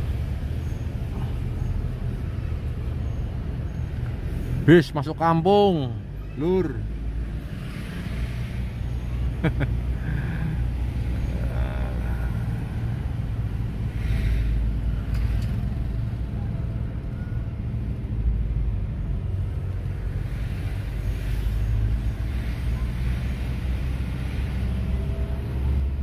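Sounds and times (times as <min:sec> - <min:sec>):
road noise: 0:00.0 - 0:26.0
vehicle engine rumbling: 0:00.0 - 0:26.0.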